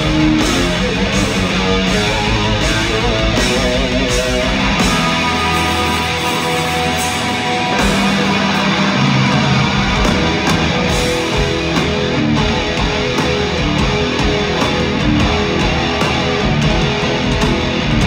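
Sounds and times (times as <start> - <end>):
bass guitar: 0.0 - 18.0
distorted electric guitar: 0.0 - 18.0
drum kit with cymbal crashes: 0.0 - 18.0.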